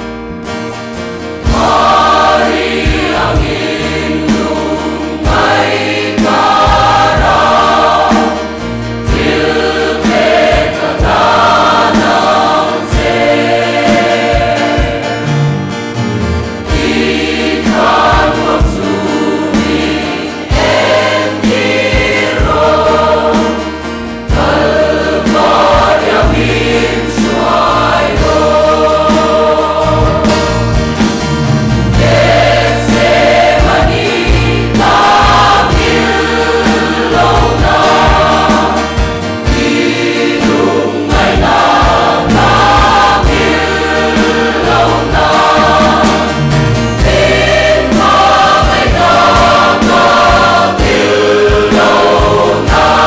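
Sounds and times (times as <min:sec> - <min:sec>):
low bass notes: 0:00.0 - 0:53.0
large choir singing a hymn: 0:00.8 - 0:53.0.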